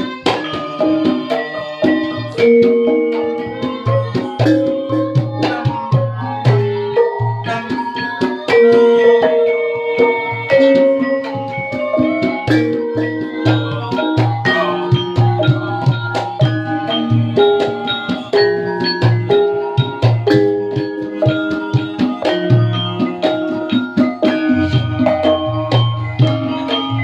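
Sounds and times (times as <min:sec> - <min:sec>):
metallophones ringing melody: 0:00.0 - 0:27.0
steady drumming: 0:00.0 - 0:27.0.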